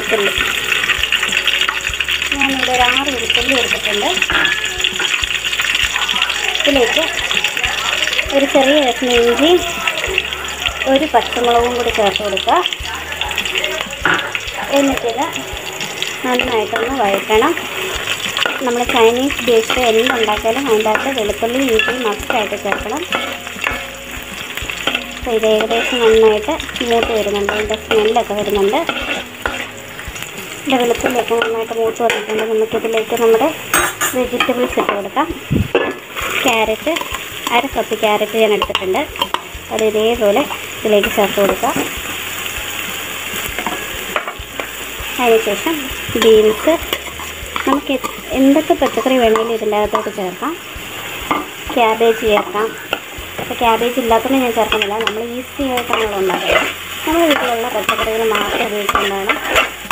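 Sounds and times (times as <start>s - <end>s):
food sizzling in hot oil: 0.0s - 59.9s
metal spatula scraping a pan: 0.2s - 7.0s, 13.4s - 35.1s, 35.7s - 50.2s, 51.0s - 59.9s.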